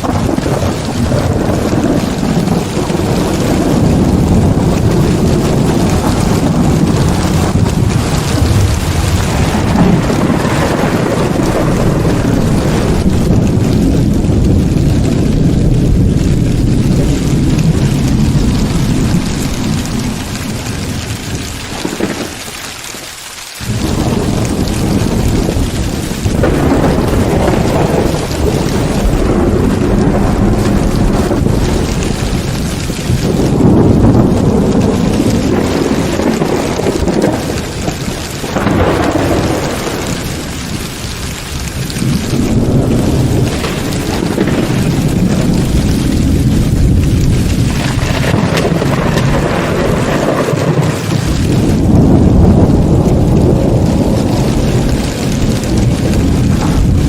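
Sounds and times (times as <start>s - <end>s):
rolling thunder: 0.0s - 23.0s, 23.6s - 57.0s
heavy rain hissing: 0.0s - 57.0s.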